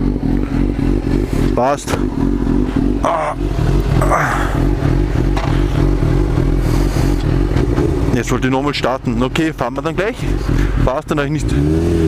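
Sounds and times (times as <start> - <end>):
motorcycle engine idling loudly: 0.0 - 11.8.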